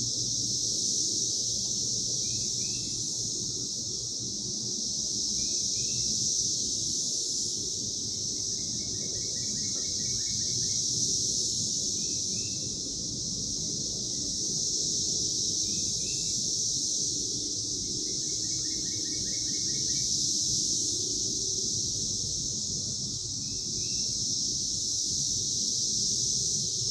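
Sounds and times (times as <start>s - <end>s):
cicadas chorusing: 0.0s - 26.9s.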